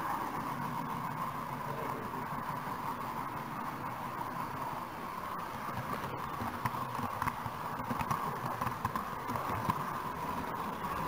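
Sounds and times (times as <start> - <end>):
model train running hum: 0.0 - 11.0.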